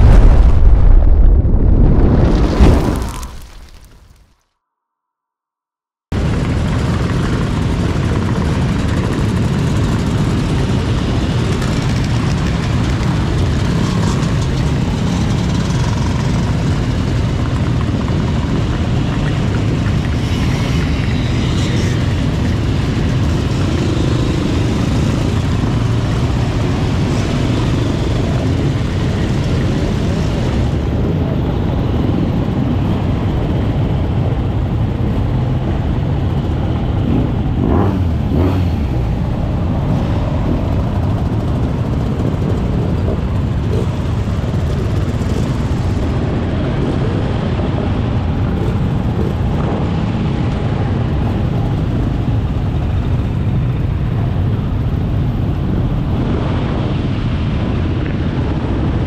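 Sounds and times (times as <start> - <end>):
motorcycle engines rumbling: 6.1 - 59.0.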